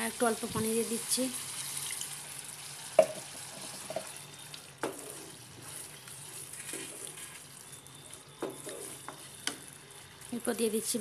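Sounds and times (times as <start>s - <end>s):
masala sizzling and bubbling: 0.0s - 11.0s.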